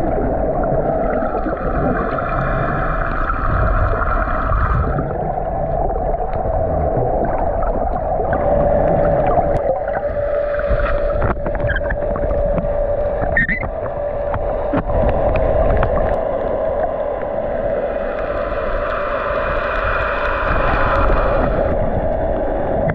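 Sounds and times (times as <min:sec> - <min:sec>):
droning hum: 0:00.0 - 0:22.9
muffled underwater water rumble: 0:00.0 - 0:22.9.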